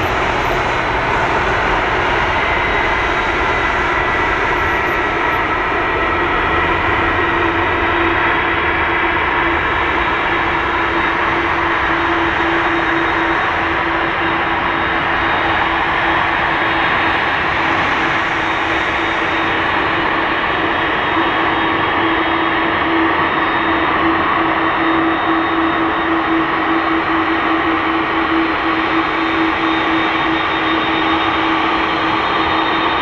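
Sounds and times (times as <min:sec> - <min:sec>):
jet engines idling: 0:00.0 - 0:33.0.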